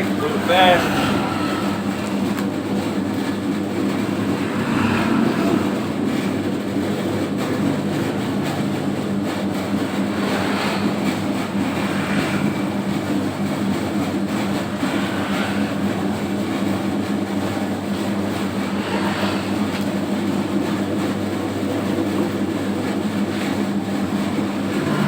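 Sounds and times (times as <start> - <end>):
dough mixer motor humming: 0.0 - 25.0.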